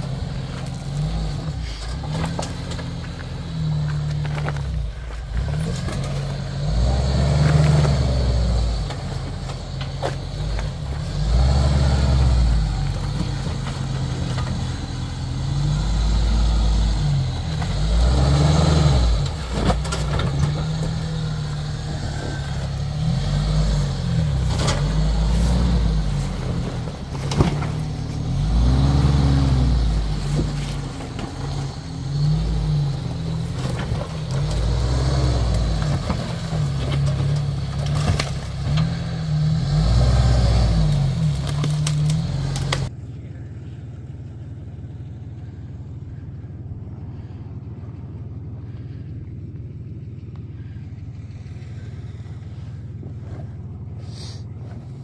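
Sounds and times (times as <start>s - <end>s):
off-road vehicle engine revving: 0.0s - 55.0s
outdoor background noise: 0.0s - 55.0s.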